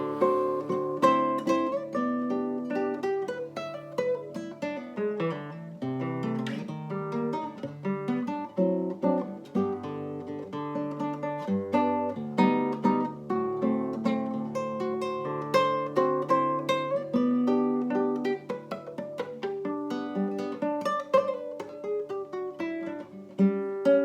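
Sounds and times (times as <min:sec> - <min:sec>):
fingerpicked acoustic guitar: 0:00.0 - 0:24.0.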